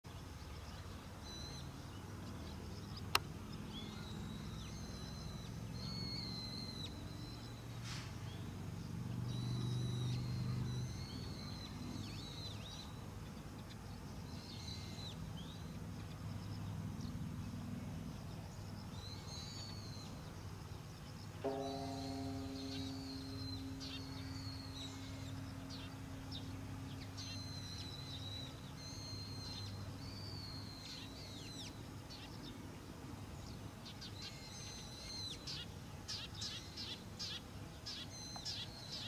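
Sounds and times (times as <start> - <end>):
birds chirping: 0.1 - 39.0
steady low hum: 0.2 - 36.0.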